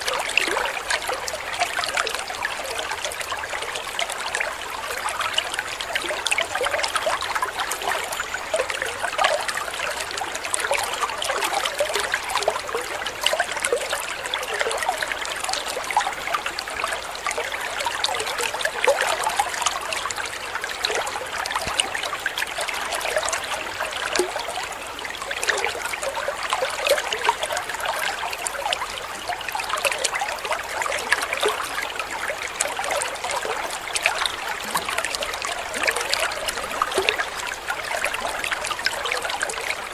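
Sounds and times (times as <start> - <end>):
stream water trickling and babbling: 0.0 - 39.9.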